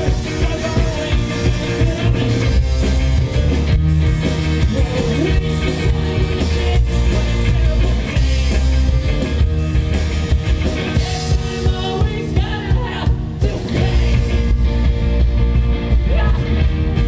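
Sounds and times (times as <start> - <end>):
bass guitar: 0.0 - 17.0
drums: 0.0 - 17.0
electric guitar: 0.0 - 17.0.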